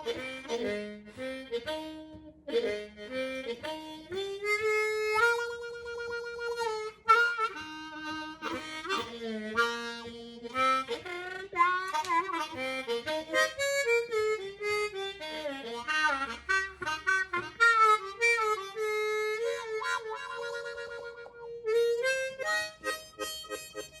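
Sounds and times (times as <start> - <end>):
harmonica melody with bent notes: 0.0 - 24.0.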